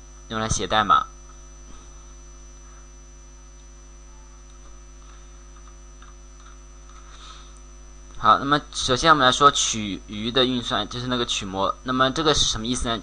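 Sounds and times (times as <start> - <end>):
electrical mains hum: 0.0 - 13.0
faint high whine: 0.0 - 13.0.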